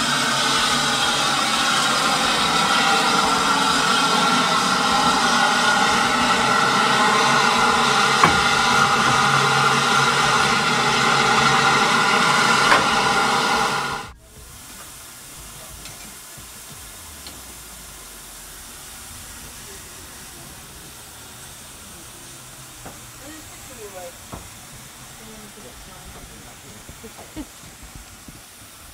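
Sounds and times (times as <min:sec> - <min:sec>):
steam hissing loudly: 0:00.0 - 0:28.9.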